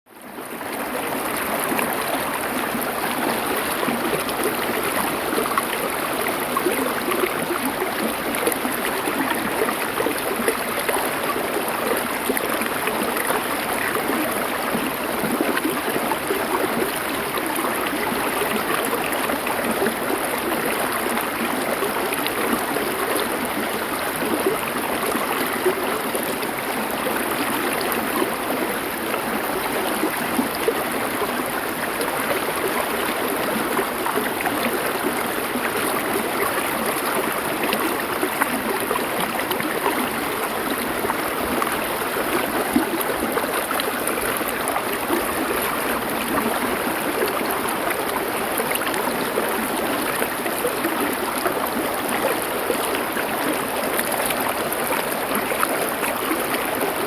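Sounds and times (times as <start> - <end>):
river flowing over stones: 0.2 - 57.0.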